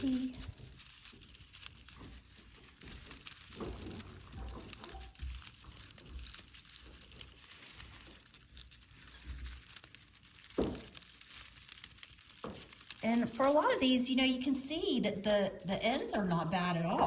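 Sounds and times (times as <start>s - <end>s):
foil needles crinkling: 0.0s - 17.0s.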